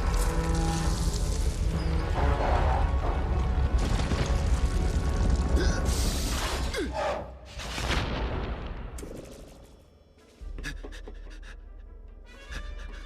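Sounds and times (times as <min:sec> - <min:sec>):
action soundtrack music: 0:00.0 - 0:13.0.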